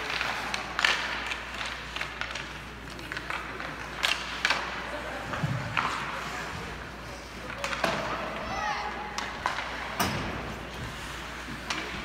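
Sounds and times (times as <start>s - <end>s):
hockey sticks clacking on puck: 0.0s - 12.0s
skate blades scraping ice: 0.0s - 12.0s.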